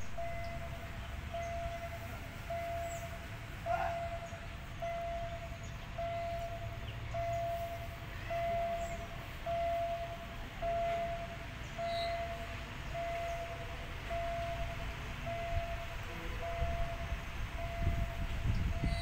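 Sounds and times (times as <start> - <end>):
level crossing warning beeps: 0.0 - 19.0
low steady rumble: 0.0 - 19.0.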